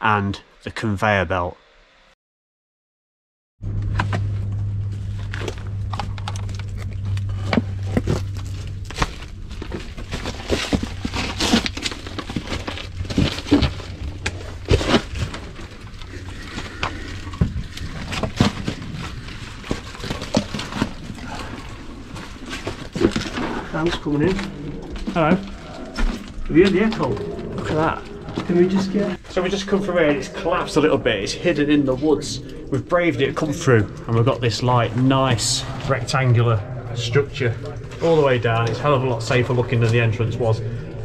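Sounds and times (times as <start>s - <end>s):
low steady hum: 3.6s - 41.0s.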